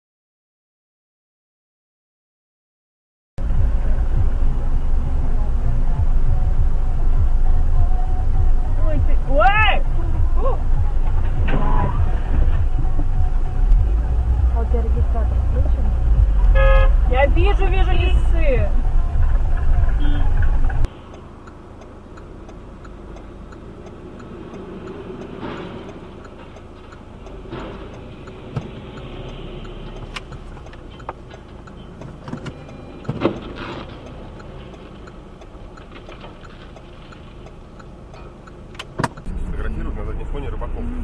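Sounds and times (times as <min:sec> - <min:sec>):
engine and road drone: 0:03.4 - 0:41.0
light regular ticking: 0:03.5 - 0:39.3.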